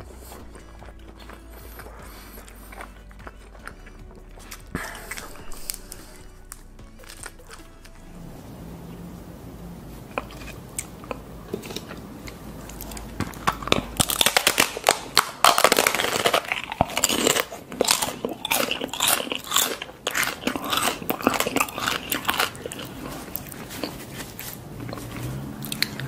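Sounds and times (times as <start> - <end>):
crunching and chewing: 0.0 - 8.4, 9.9 - 26.0.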